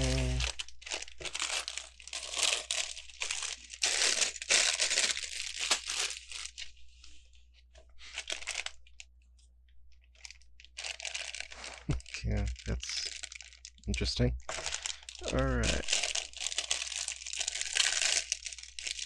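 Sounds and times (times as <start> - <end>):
plastic bag tearing and crinkling: 0.0 - 6.8, 8.0 - 9.0, 10.2 - 19.0.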